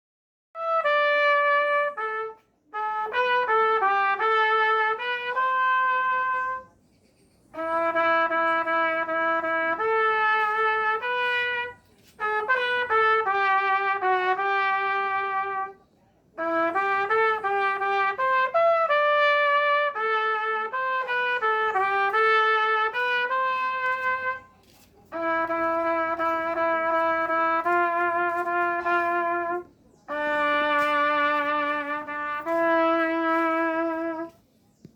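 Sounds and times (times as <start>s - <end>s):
solo trumpet playing hymn melody: 0.6s - 6.8s, 7.5s - 34.5s.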